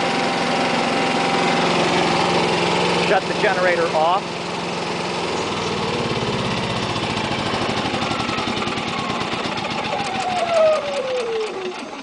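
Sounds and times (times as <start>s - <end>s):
generator engine winding down: 0.0s - 12.0s.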